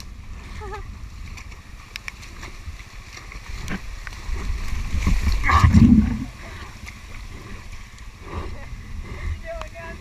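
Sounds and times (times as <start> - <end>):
wind rumble: 0.0 - 10.0.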